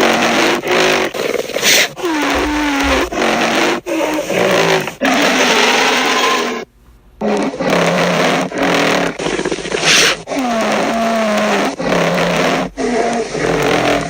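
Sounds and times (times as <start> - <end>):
harsh growling creature calls: 1.6 - 6.6, 7.2 - 14.0.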